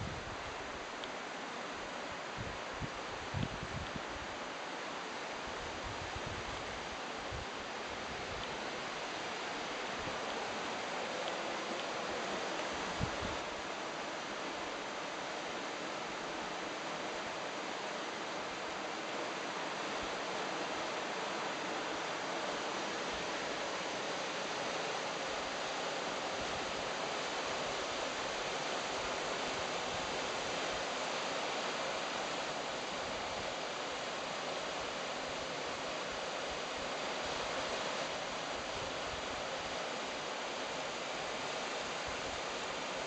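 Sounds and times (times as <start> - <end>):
river rushing over shallows: 0.0 - 43.0.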